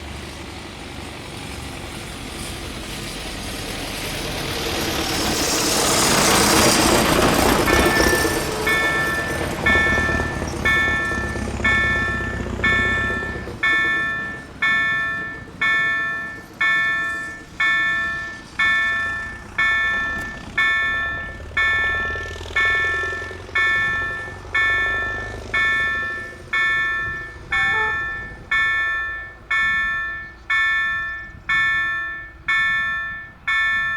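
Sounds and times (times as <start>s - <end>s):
electric train passing: 0.0s - 33.9s
level crossing warning bell: 5.4s - 33.9s.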